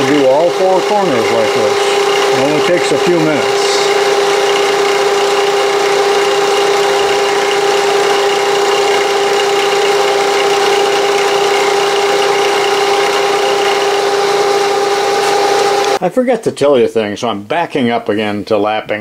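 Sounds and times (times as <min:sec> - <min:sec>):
milling machine running: 0:00.0 - 0:16.0.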